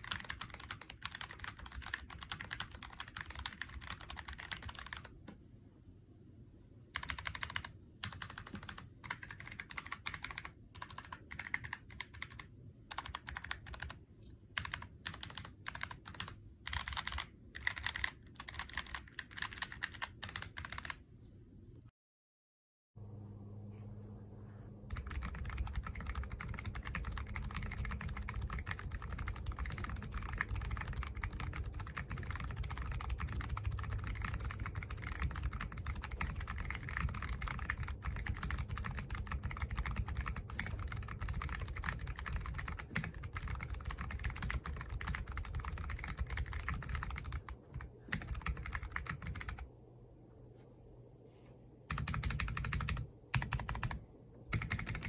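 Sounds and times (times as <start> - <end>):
mechanical keyboard typing: 0.0 - 5.2, 7.0 - 14.0, 14.6 - 21.0, 24.9 - 49.7, 51.9 - 55.0.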